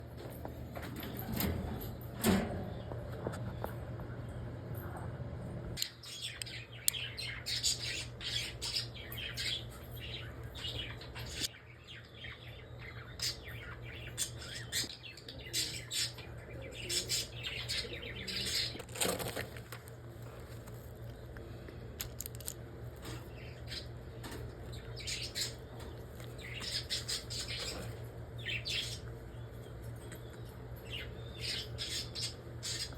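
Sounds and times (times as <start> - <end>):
low steady hum: 0.0 - 32.9
birds chirping and squawking: 5.8 - 32.9.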